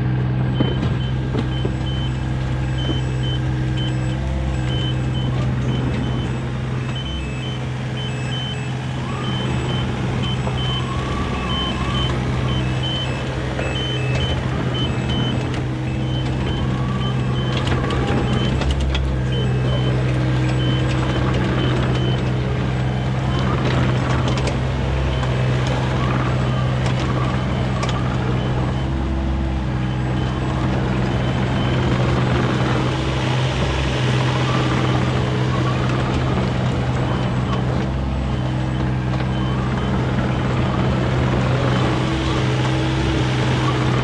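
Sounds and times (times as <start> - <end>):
diesel engine under load: 0.0 - 44.0.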